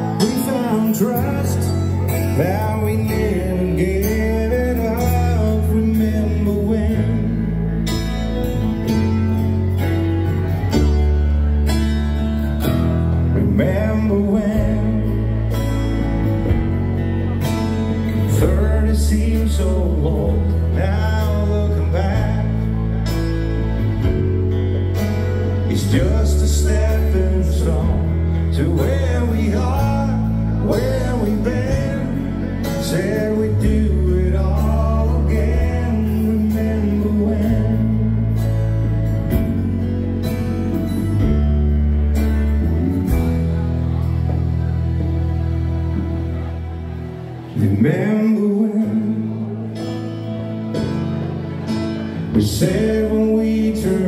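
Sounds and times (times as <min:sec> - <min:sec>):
live band playing country ballad: 0:00.0 - 0:54.0.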